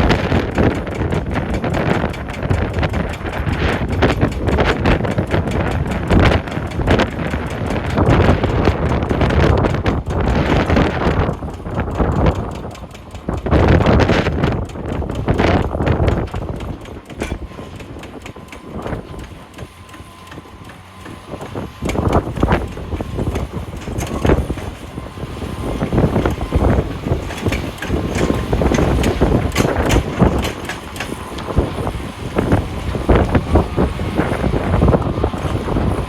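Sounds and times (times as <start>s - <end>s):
diesel engine running: 0.0s - 36.0s
wind buffeting microphone: 0.0s - 36.0s.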